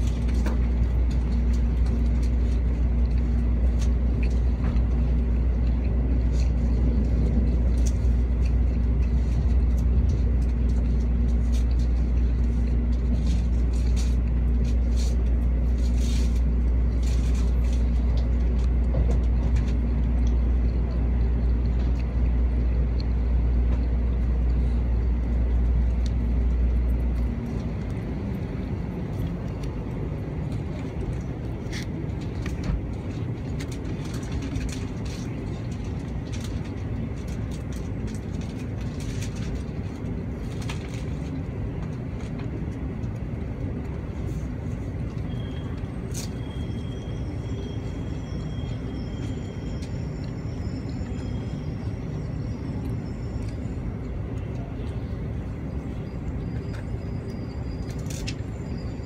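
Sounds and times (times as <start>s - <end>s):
faint hum: 0.0s - 59.0s
train cabin low rumble: 0.0s - 59.0s.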